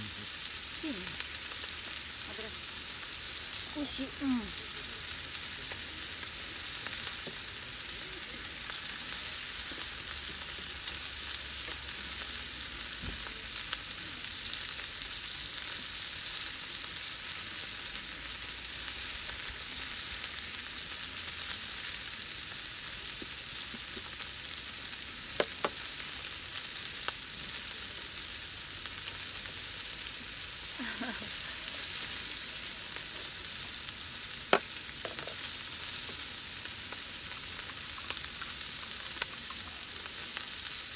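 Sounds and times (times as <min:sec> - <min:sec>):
meat sizzling in a pan: 0:00.0 - 0:40.9.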